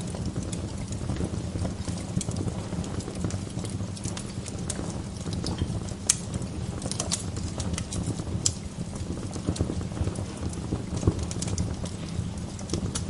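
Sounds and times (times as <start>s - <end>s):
low steady rumble: 0.0s - 13.0s
wood fire crackling and popping: 0.0s - 13.0s.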